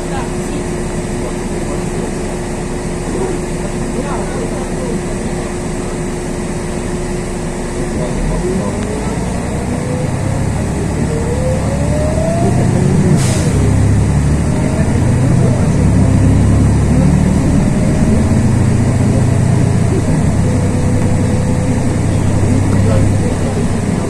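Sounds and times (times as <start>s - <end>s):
bus engine rumble and whine: 0.0s - 24.0s.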